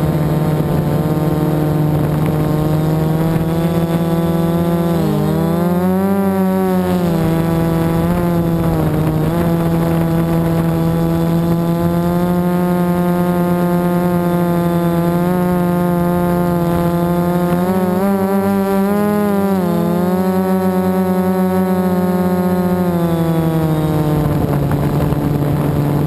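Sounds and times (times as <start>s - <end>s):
drone propellers buzzing: 0.0s - 26.0s.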